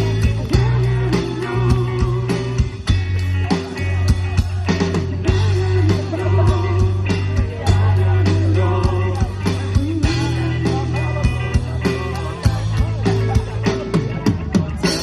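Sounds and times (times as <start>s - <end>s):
bass guitar: 0.0s - 15.0s
drum beat: 0.0s - 15.0s
lead guitar melody: 0.0s - 15.0s.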